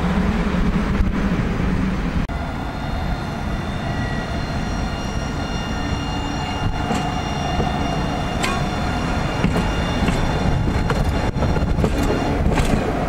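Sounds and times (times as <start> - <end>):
tram high-pitched whine: 0.0 - 13.0
tram low rumble: 0.0 - 13.0.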